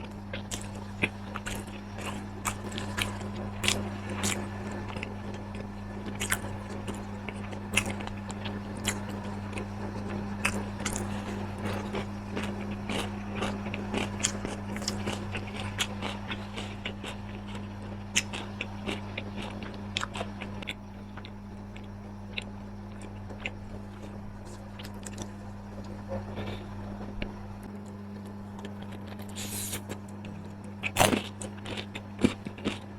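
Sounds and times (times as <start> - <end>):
chewing crisp food: 0.0 - 32.9
low electrical hum: 0.0 - 32.9.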